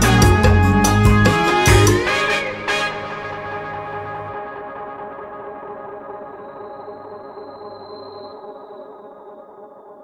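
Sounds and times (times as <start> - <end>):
ambient background music: 0.0 - 10.0.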